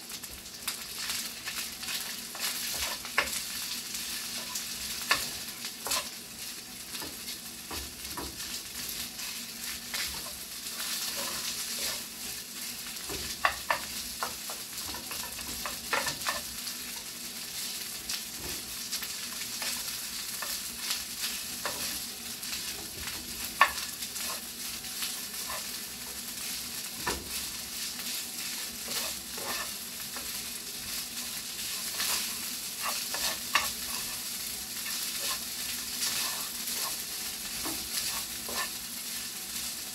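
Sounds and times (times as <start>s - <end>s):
rice sizzling in a frying pan: 0.0s - 39.9s
spatula scraping and tapping a pan: 1.9s - 3.4s, 4.3s - 6.2s, 6.9s - 8.6s, 9.2s - 12.1s, 13.0s - 17.1s, 18.3s - 18.6s, 19.3s - 38.8s.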